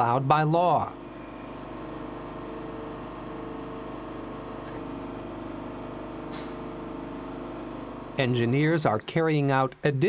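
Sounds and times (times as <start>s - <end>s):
laboratory equipment humming: 0.0s - 10.0s.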